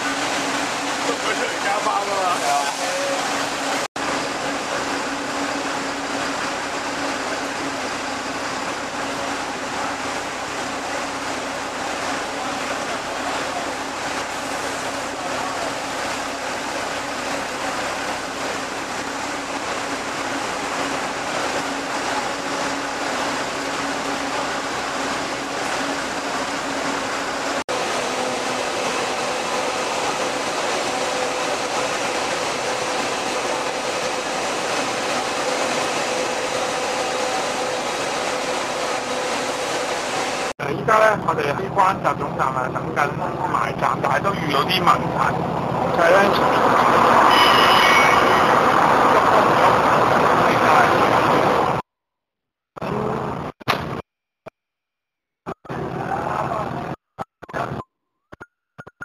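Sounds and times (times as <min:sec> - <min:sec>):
bus engines idling: 0:00.0 - 0:51.8
ventilation: 0:00.0 - 0:51.8.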